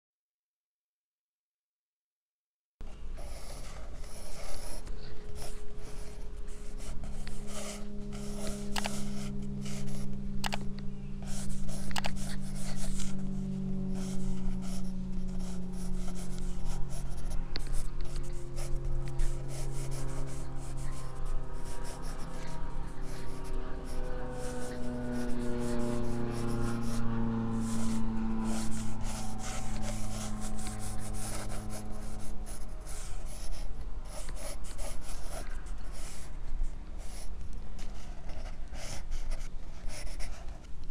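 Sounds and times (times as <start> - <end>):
soft held low tones: 2.8 - 38.7
pencil scratching on paper: 3.2 - 40.8.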